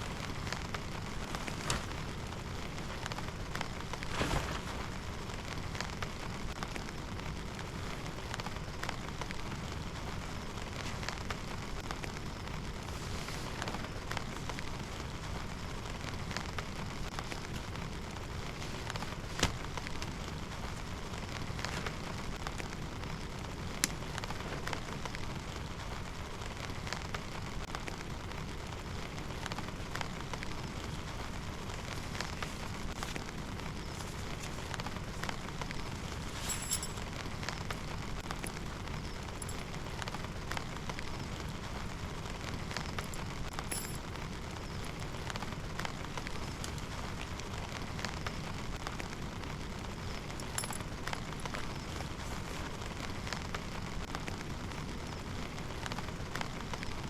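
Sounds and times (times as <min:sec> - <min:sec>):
rain falling: 0:00.0 - 0:57.0
raindrops tapping a surface: 0:00.0 - 0:57.0.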